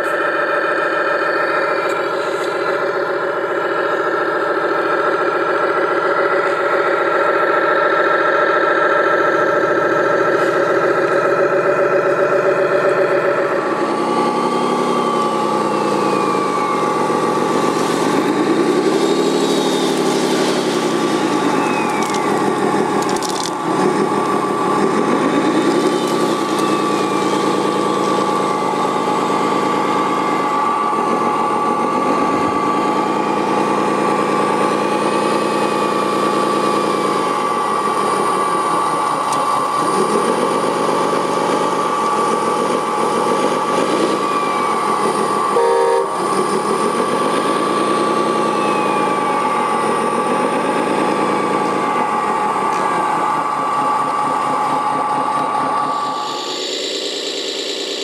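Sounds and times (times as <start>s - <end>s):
high whine: 0.0s - 58.0s
toy loader engine revving: 0.0s - 58.0s.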